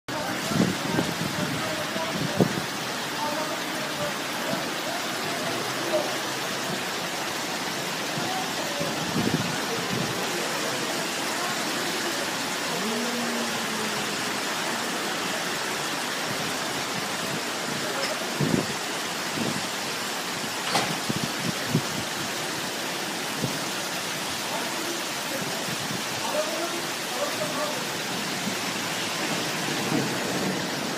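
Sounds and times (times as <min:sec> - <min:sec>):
hail and heavy rain falling: 0:00.1 - 0:30.9.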